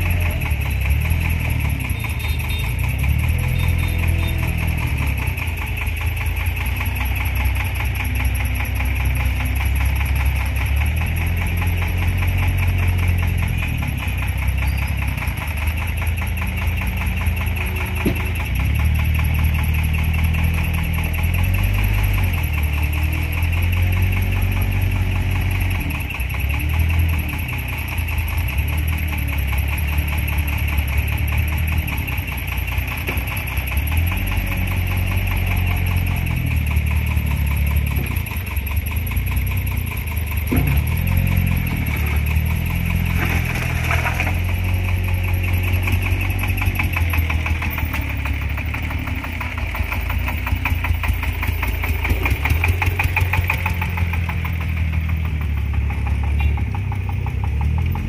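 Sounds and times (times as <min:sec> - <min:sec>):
wheel loader engine working: 0:00.0 - 0:58.0.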